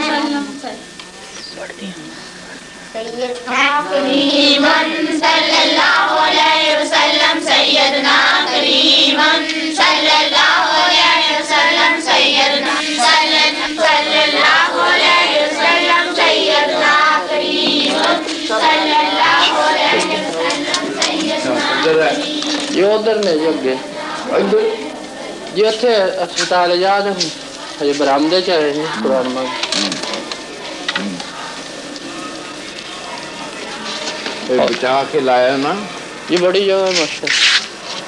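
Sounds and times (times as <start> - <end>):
high voices singing devotional song: 0.0 - 0.7, 3.6 - 34.6.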